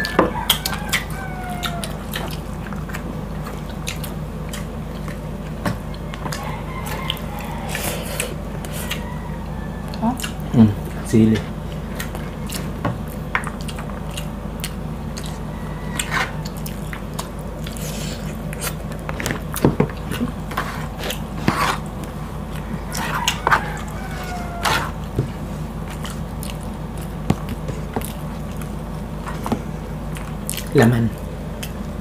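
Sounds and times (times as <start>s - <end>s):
people chewing: 0.0s - 32.0s
steady low hum: 0.0s - 32.0s.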